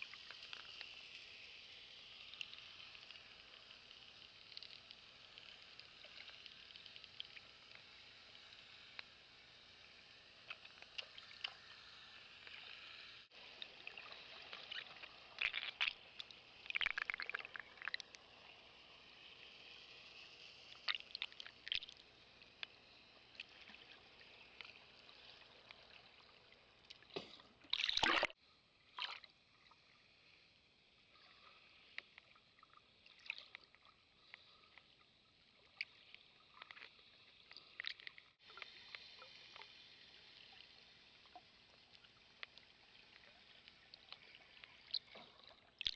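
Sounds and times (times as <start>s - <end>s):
underwater hiss: 0.0s - 15.4s, 16.0s - 27.5s, 28.4s - 33.2s, 33.8s - 45.5s
underwater clicks and crackles: 0.0s - 30.4s, 31.0s - 45.9s.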